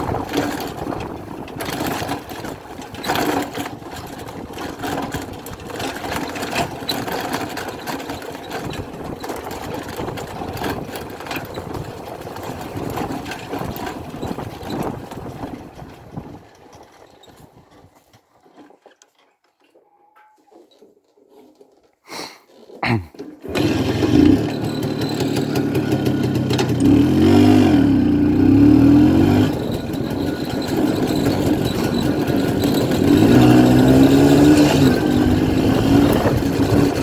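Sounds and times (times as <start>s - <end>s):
motorcycle engine running: 0.0s - 16.5s, 23.4s - 37.0s.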